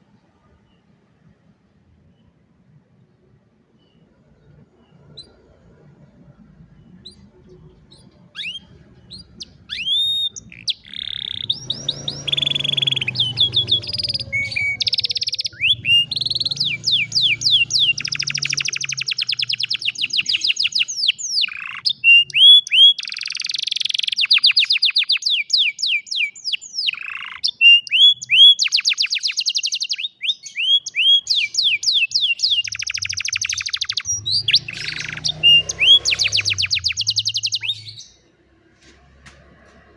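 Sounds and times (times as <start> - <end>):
canary singing trills: 3.8 - 38.3.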